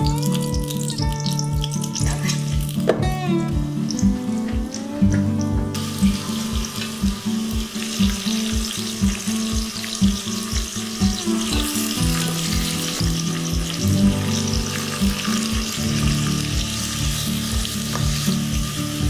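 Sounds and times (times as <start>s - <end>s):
background music with steady beat: 0.0s - 19.0s
food sizzling in hot oil: 0.0s - 19.0s.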